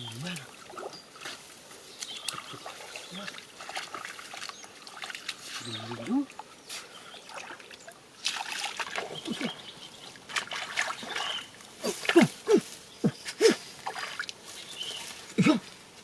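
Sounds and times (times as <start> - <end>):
water splashing and sloshing: 0.0 - 15.6.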